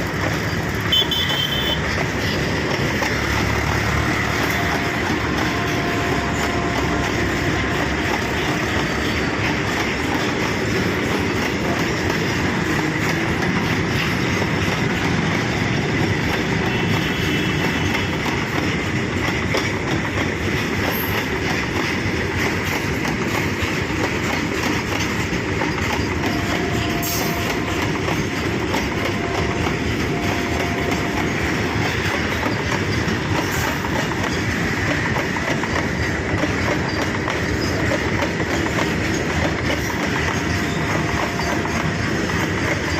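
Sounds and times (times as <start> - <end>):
freight train wagons rolling: 0.0 - 42.9.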